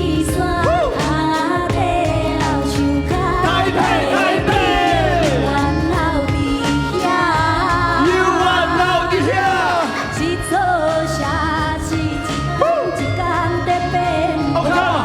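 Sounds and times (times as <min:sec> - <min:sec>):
music with beat and bass: 0:00.0 - 0:15.0
person singing wordless phrases: 0:00.0 - 0:15.0.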